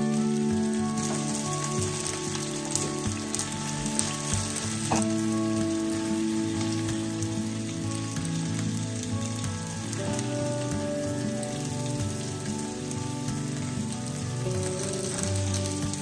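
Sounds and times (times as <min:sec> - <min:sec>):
background music with held notes: 0:00.0 - 0:16.0
meat sizzling in skillet: 0:00.0 - 0:16.0.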